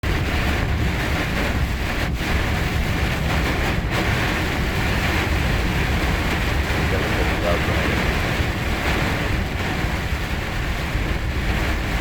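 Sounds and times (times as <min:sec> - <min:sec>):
heavy rain: 0:00.0 - 0:12.0
low rumble: 0:00.0 - 0:12.0
wind buffeting microphone: 0:00.0 - 0:12.0.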